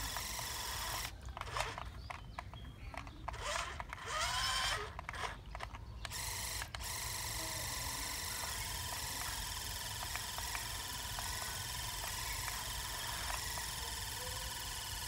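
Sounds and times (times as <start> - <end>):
toy gear motor whining: 0.0 - 2.3, 2.9 - 15.0
clicks: 0.0 - 7.4, 8.1 - 15.0.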